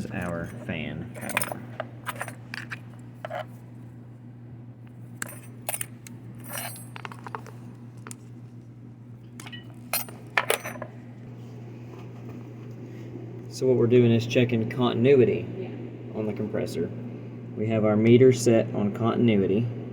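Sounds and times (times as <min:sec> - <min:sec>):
low electrical hum: 0:00.0 - 0:19.9.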